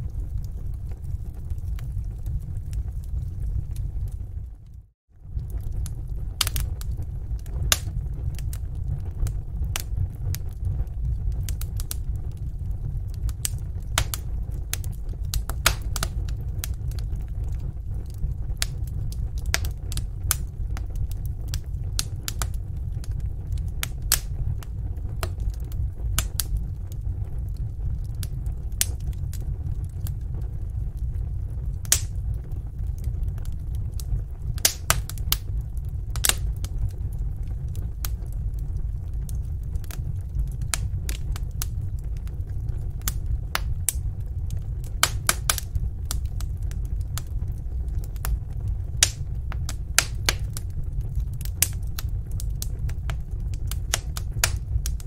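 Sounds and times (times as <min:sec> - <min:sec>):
fire rumbling: 0:00.0 - 0:55.0
logs crackling and popping: 0:00.0 - 0:55.0.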